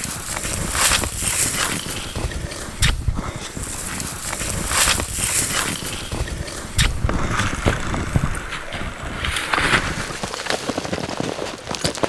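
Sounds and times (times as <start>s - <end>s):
brushing through bushes: 0.0s - 11.4s
boots crunching through snow: 0.0s - 12.0s.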